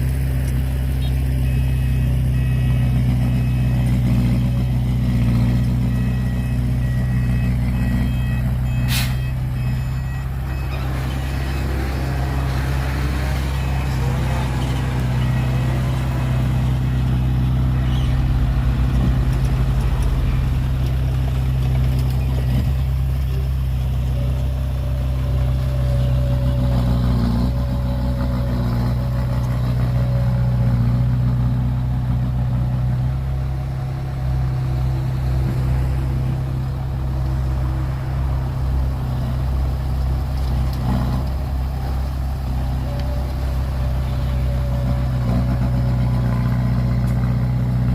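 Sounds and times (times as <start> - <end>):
diesel machinery engine drone: 0.0 - 47.9.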